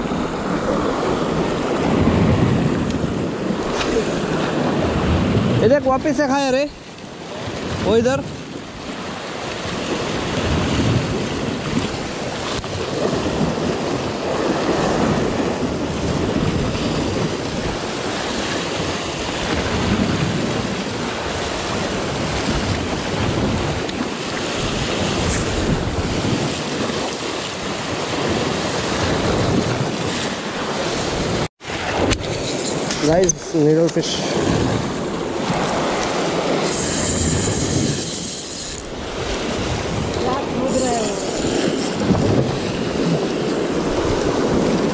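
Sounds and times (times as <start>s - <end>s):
wind buffeting microphone: 0.0s - 6.3s, 6.9s - 44.9s
sea waves breaking on rocks: 0.0s - 44.9s.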